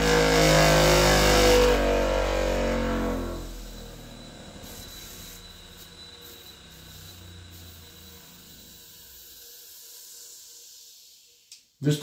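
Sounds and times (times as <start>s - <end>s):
grinding wheel motor winding down: 0.0s - 9.8s.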